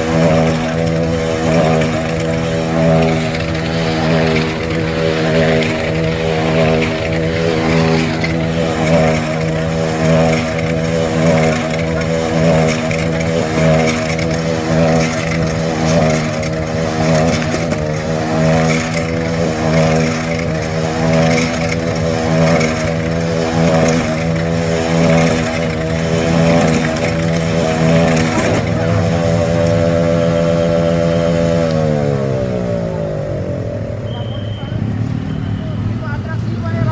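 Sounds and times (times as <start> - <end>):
motorcycle engines running: 0.0 - 36.9.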